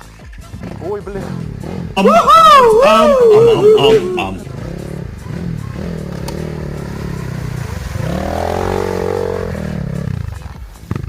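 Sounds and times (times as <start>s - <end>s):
motorcycle engine revving: 0.4s - 2.0s, 2.6s - 11.0s.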